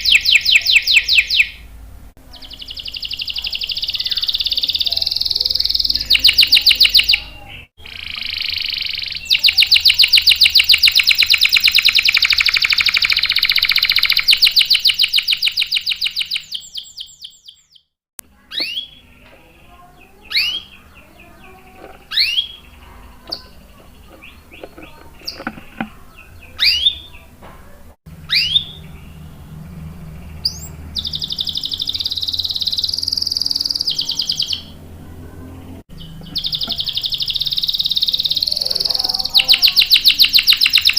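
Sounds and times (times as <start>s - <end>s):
canary chirps: 0.0s - 40.9s
canary singing trills: 0.0s - 40.9s.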